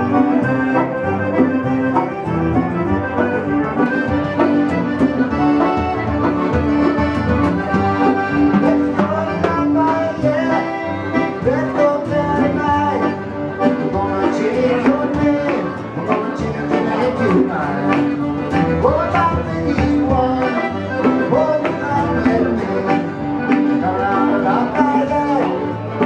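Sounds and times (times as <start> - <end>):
acoustic guitar: 0.0 - 26.0
button accordion playing: 0.0 - 26.0
fiddle: 0.0 - 26.0.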